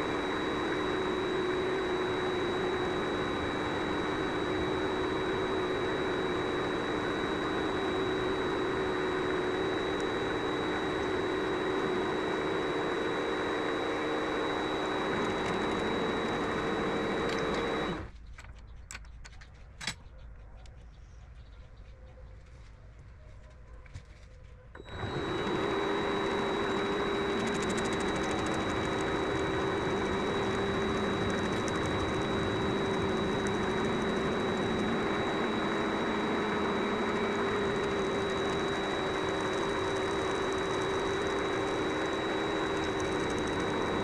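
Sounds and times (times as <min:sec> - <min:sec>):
lathe motor whine: 0:00.0 - 0:18.1, 0:24.8 - 0:44.0.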